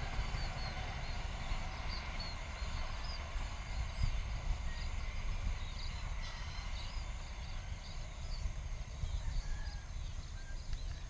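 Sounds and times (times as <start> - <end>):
birds chirping: 0.0 - 11.0
low rumble: 0.0 - 11.0.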